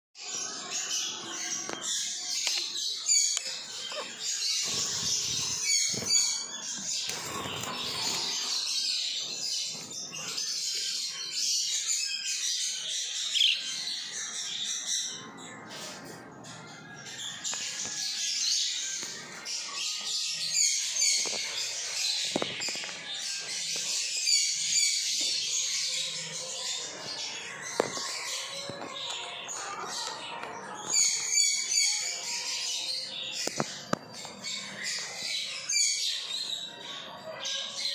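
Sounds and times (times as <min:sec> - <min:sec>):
budgerigars chattering and chirping: 0:00.3 - 0:37.9.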